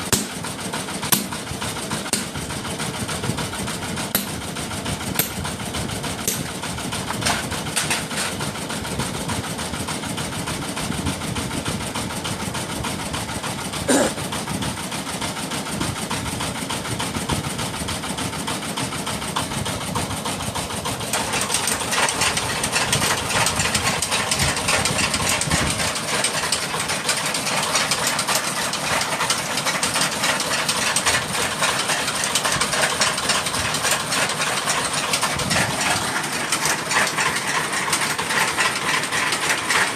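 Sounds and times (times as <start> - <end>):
workshop machinery rattling: 0.0 - 39.9.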